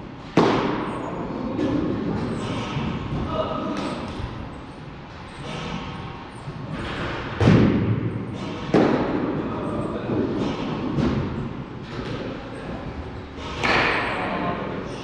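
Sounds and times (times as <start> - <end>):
baseball thuds echoing in hall: 0.0 - 15.0.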